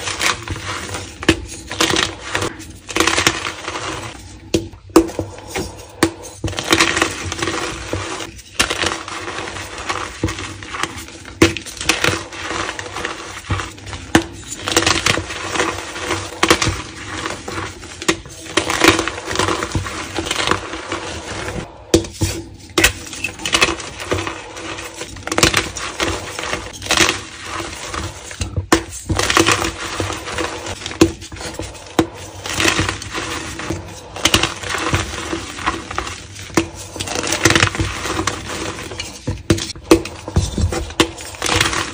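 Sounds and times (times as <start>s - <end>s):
chalk blocks crushed by hand: 0.0s - 41.9s.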